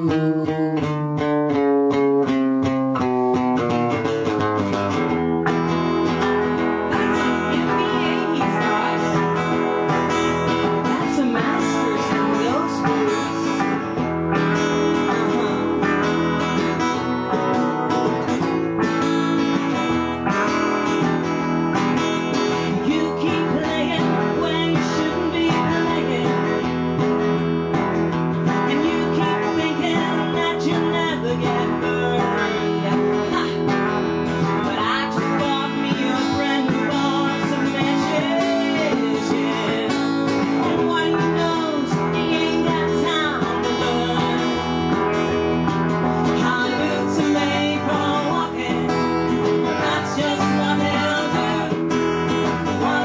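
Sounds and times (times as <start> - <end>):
acoustic guitar strumming: 0.0 - 53.0
bending melody line: 0.0 - 53.0.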